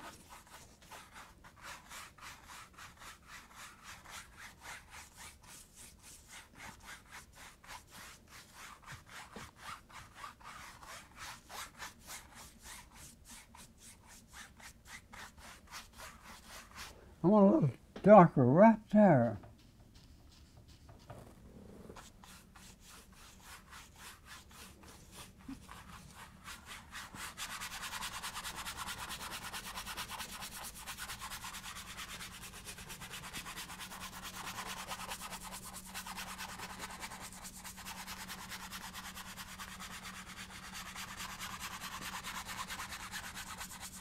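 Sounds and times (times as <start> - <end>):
paintbrush scrubbing on canvas: 0.0 - 17.0, 19.5 - 44.0.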